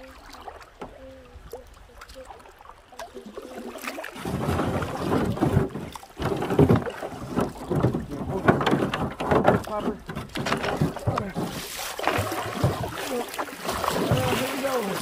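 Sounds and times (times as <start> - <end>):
water splashing around paddle: 0.0 - 15.0.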